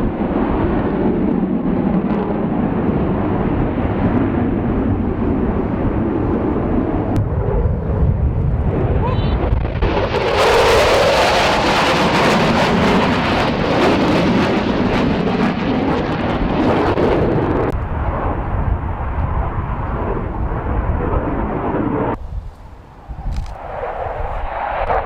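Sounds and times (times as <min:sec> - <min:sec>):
aircraft engine roar: 0:00.0 - 0:25.0.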